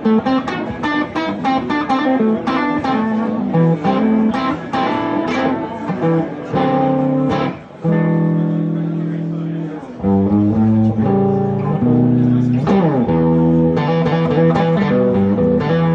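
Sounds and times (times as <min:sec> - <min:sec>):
electric guitar lead lines: 0:00.0 - 0:15.9.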